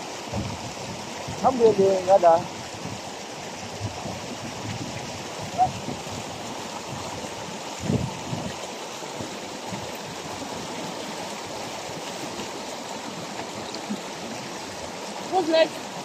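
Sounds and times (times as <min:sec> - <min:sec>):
stream water splashing: 0:00.0 - 0:16.0.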